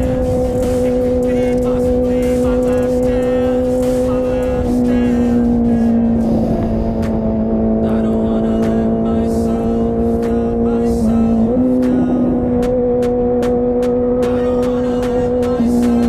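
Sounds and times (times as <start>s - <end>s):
motorcycle engine high-revving: 0.0s - 16.0s.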